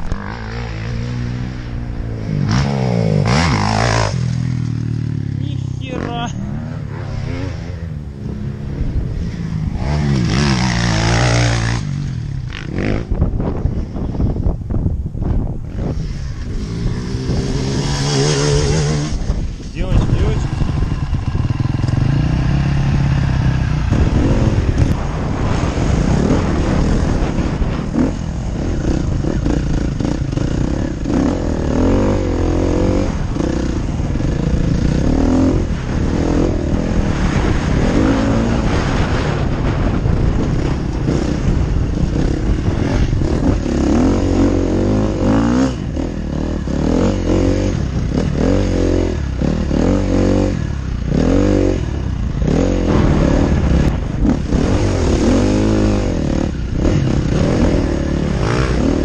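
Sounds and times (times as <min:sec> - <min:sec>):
dirt bike engine revving: 0:00.0 - 0:13.5, 0:15.7 - 0:59.0.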